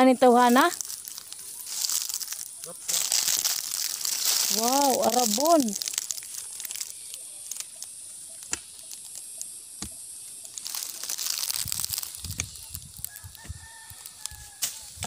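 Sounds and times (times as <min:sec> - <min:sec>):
footsteps on dry soil and grass: 0:00.0 - 0:07.0, 0:09.8 - 0:15.0.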